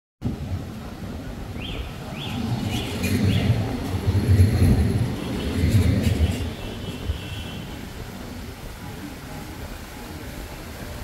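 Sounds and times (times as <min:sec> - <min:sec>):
low street rumble: 0:00.2 - 0:11.0.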